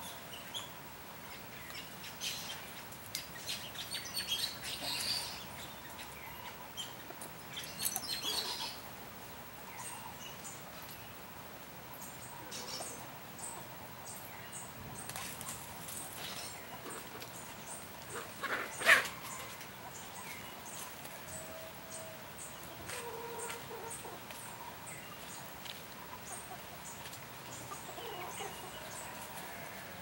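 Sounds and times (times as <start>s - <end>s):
small birds chirping: 0.0s - 29.7s.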